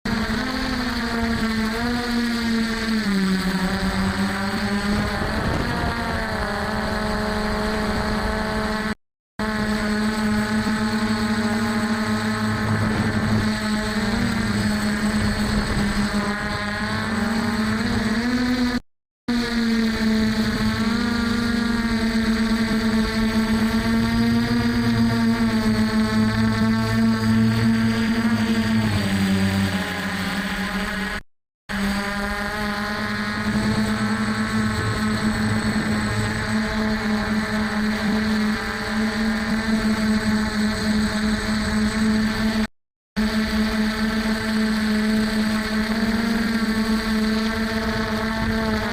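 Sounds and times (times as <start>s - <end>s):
quadcopter motors buzzing whine: 0.0s - 48.9s.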